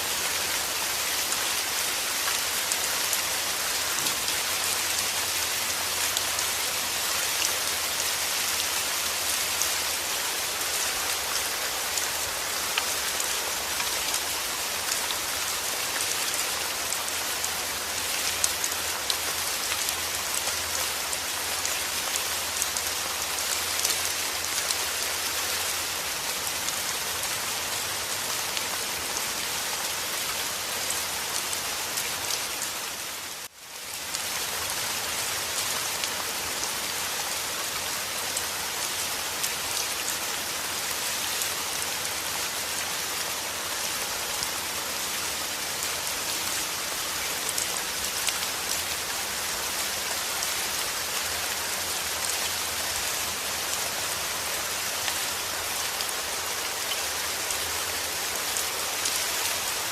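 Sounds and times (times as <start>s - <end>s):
steady heavy rain: 0.0s - 59.9s.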